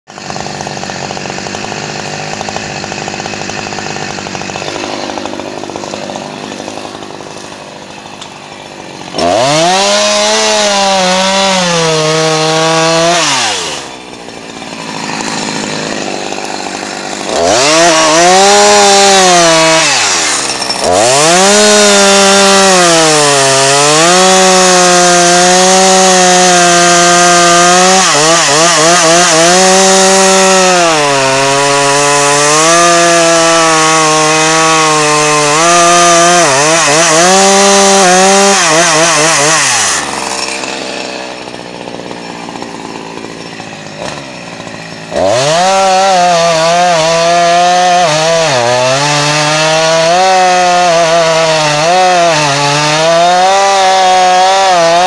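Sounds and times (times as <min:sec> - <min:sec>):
chainsaw cutting wood: 0:00.1 - 0:55.0.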